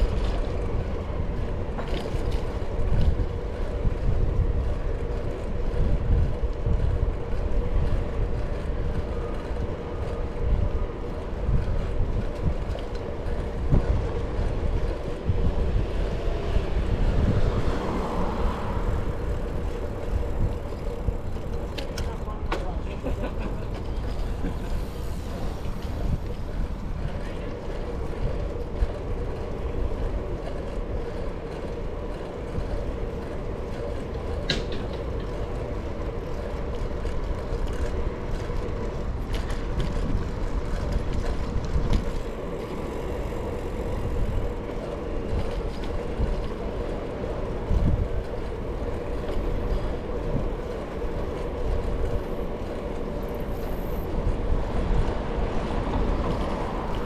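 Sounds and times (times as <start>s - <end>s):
bicycle tyres rolling: 0.0s - 57.0s
wind buffeting microphone: 0.0s - 57.0s.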